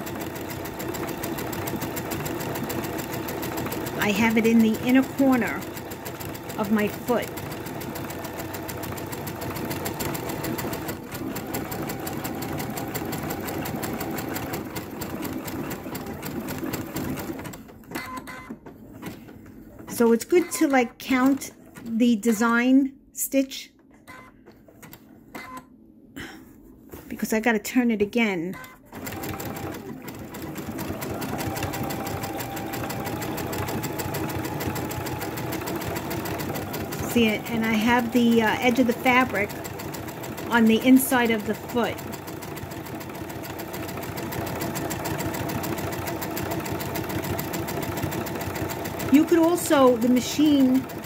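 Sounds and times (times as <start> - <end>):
sewing machine clatter: 0.0 - 21.9, 28.6 - 51.0.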